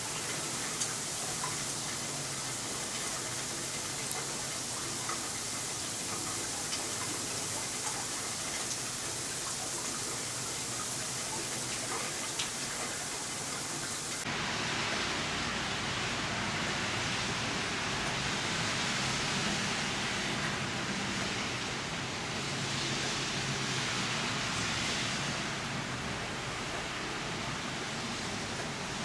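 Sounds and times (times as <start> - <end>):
hiss of heavy precipitation: 0.0 - 29.0.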